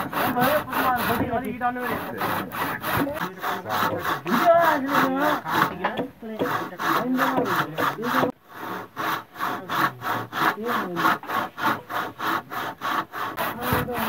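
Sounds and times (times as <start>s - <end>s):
handsaw cutting wood: 0.0s - 14.0s.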